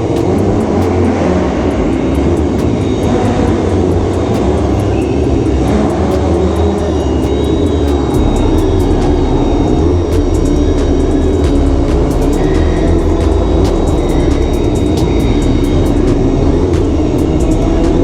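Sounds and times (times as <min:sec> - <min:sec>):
motorcycle engine running loud: 0:00.0 - 0:18.0.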